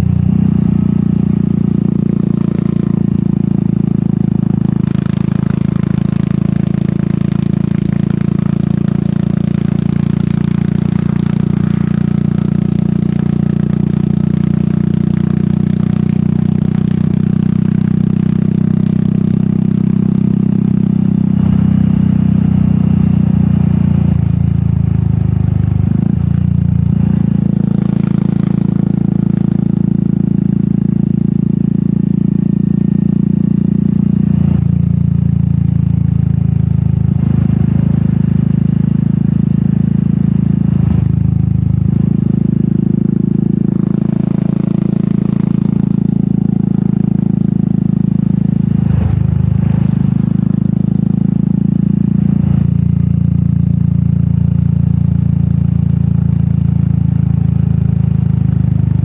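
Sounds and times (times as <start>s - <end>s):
motorcycle engine riding: 0.0s - 59.0s.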